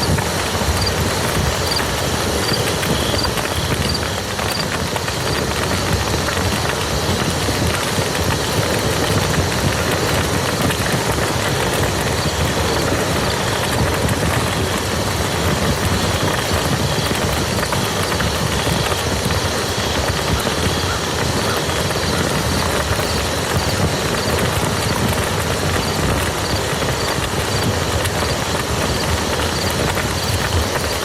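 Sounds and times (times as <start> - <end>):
rain falling on a field: 0.0 - 31.0.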